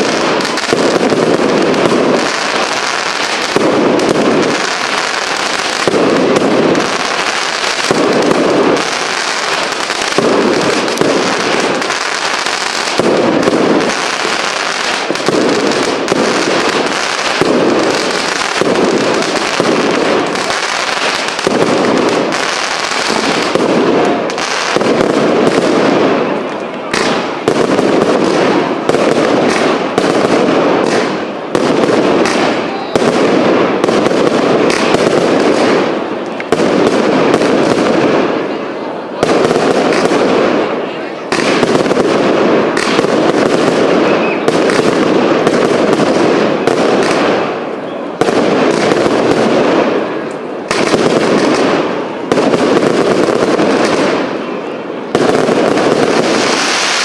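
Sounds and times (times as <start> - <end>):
deep fireworks booms: 0.0 - 57.0
fireworks bangs and crackles: 0.0 - 57.0.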